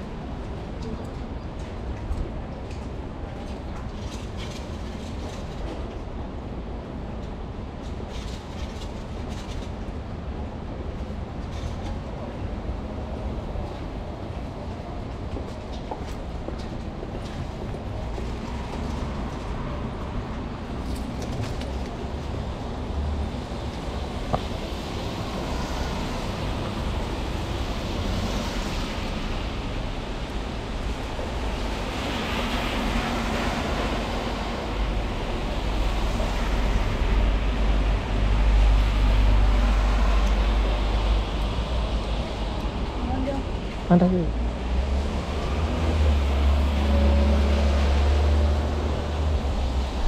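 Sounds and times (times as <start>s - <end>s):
low traffic rumble: 0.0s - 50.0s
vehicles passing: 8.2s - 50.0s.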